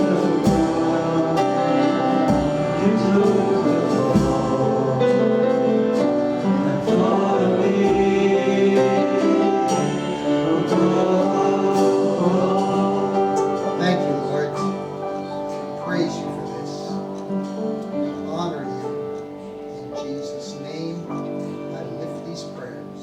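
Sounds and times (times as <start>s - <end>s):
congregation singing worship song: 0.0s - 23.0s
instrumental accompaniment: 0.0s - 23.0s.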